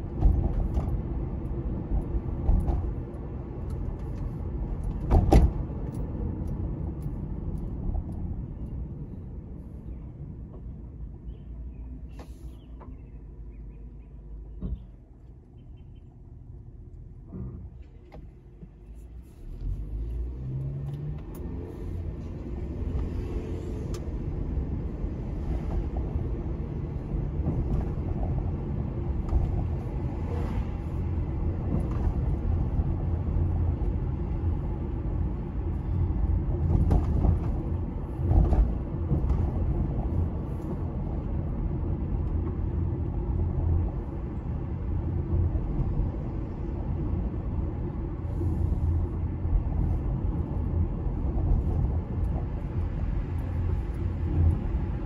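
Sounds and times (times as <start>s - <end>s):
road rumble inside car: 0.0s - 55.0s.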